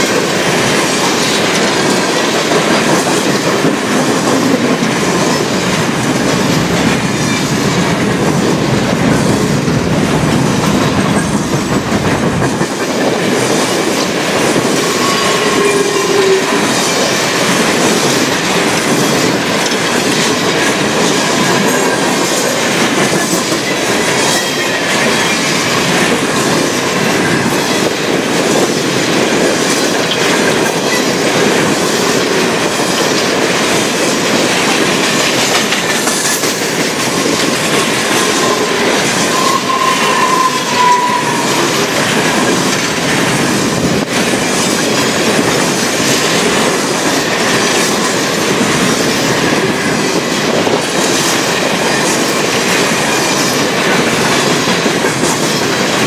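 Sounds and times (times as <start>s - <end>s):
train wheels clattering on rail: 0.0s - 56.0s.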